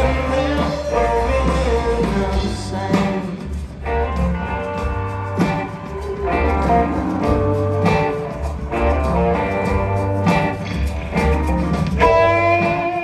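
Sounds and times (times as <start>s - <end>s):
live blues-rock band: 0.0s - 13.0s.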